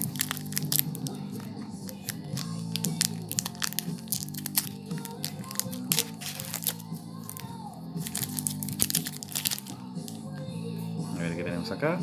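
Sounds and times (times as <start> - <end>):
foil wrapper and cards crinkling: 0.0 - 10.4
background music low notes: 0.0 - 12.0.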